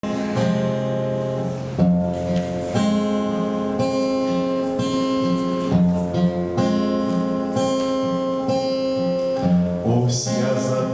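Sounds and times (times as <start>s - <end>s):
acoustic guitar strumming chords: 0.0s - 10.9s.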